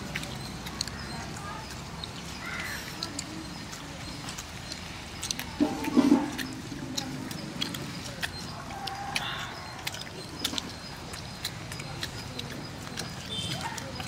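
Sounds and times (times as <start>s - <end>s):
fingers working food on leaves: 0.0s - 14.0s
lip smacks: 0.0s - 14.0s.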